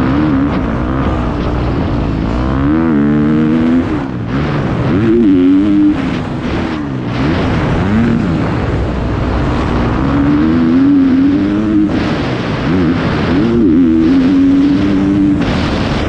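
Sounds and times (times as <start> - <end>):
motocross bike engine revving: 0.0 - 16.0
wind noise on microphone: 0.0 - 16.0.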